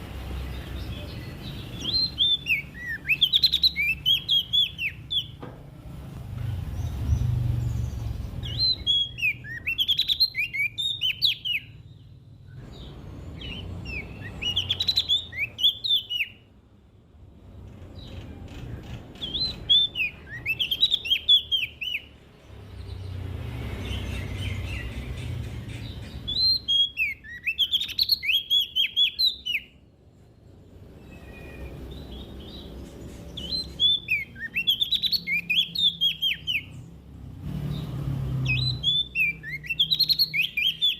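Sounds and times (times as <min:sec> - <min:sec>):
warbler singing high chirps: 0:00.0 - 0:40.9.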